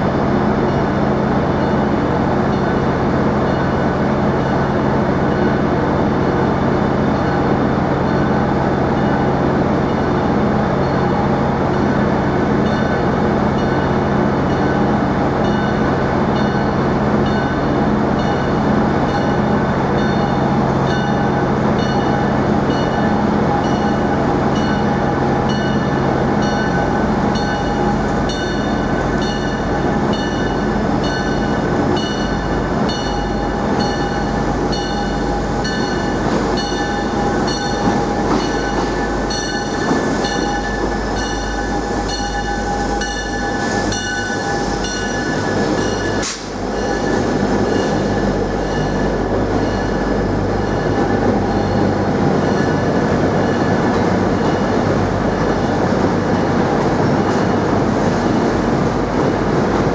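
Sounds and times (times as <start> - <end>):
train machinery drone: 0.0 - 59.9.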